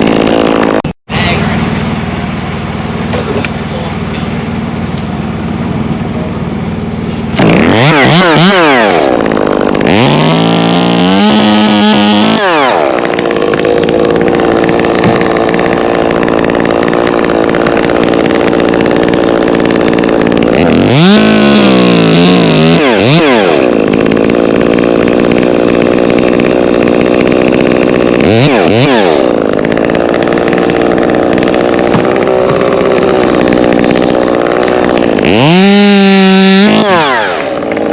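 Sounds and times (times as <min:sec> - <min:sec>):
chainsaw revving and cutting wood: 0:00.0 - 0:37.9.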